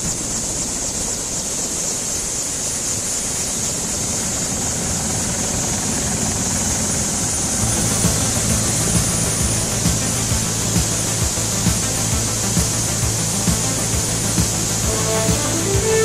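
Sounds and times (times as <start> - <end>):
constant rushing noise: 0.0 - 16.0
helicopter engine whine: 0.0 - 16.0.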